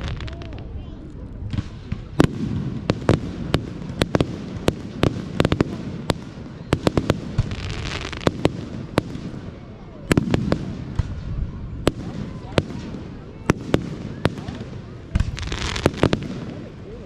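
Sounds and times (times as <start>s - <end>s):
crackling hiss: 0.0s - 17.0s
distant firework rumble: 0.0s - 17.0s
firework bangs: 1.4s - 17.0s.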